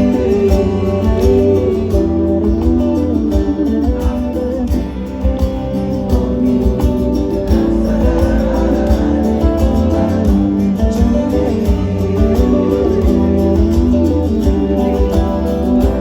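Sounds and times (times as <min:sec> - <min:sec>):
live band instrumental music: 0:00.0 - 0:16.0.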